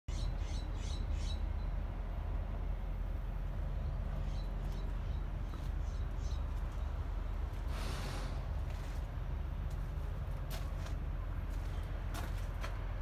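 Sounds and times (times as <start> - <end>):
diesel truck engine idling: 0.1 - 13.0.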